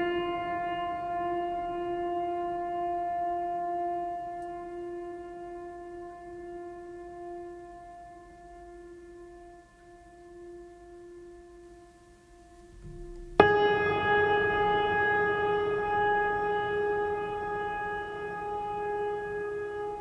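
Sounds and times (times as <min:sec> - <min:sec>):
steady droning tone: 0:00.0 - 0:20.0.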